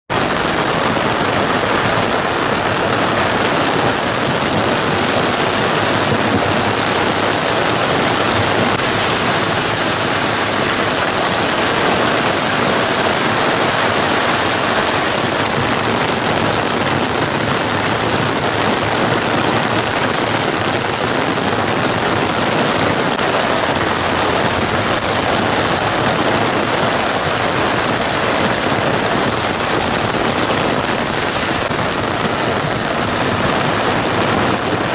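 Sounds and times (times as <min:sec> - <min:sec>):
heavy rain on pavement: 0:00.0 - 0:34.9.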